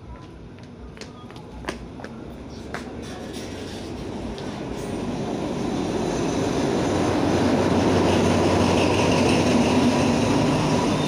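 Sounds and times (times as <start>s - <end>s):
locomotive engine passing: 1.8s - 11.0s.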